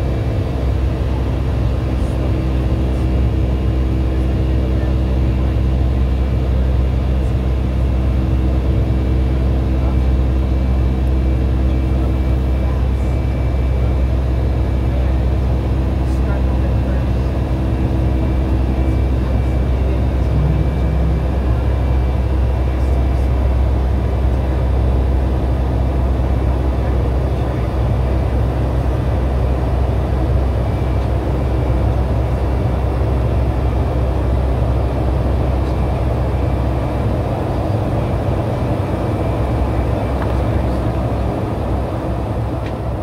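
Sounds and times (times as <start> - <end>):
airplane engine drone: 0.0 - 43.0.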